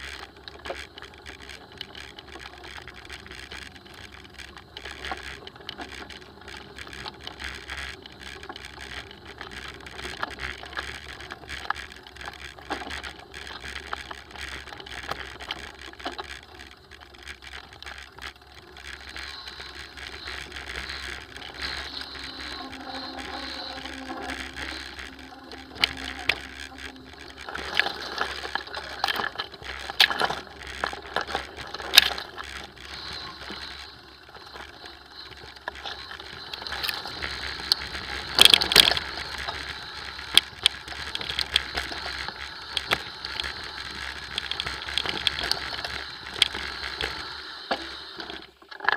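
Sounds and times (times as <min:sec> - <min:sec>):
freewheel hub clicking: 0:00.0 - 0:48.9
mountain bike rattling over bumps: 0:00.0 - 0:48.9.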